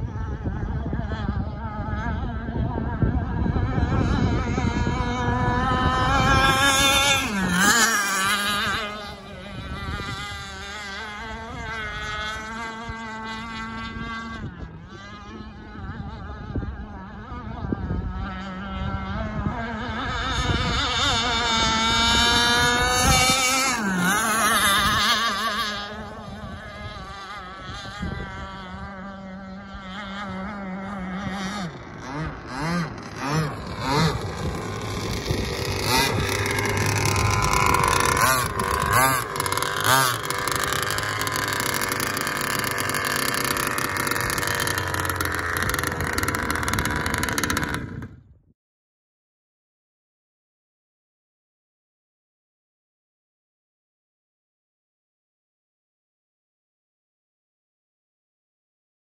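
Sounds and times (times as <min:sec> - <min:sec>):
rc boat motor whine: 0:00.0 - 0:48.3.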